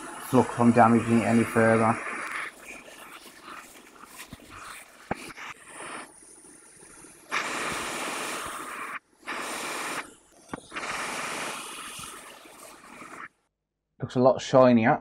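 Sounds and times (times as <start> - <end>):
flux sizzling under soldering iron: 0.0 - 13.4.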